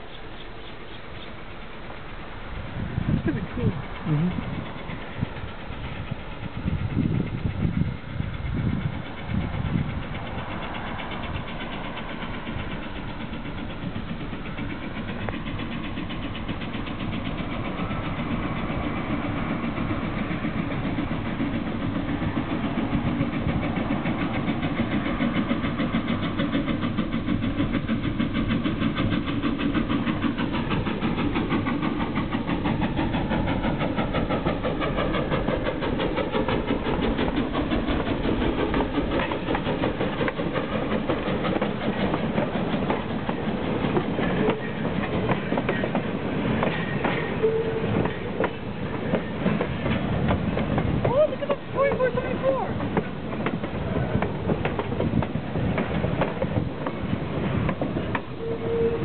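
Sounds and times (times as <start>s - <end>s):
steam locomotive chugging: 0.0s - 59.0s.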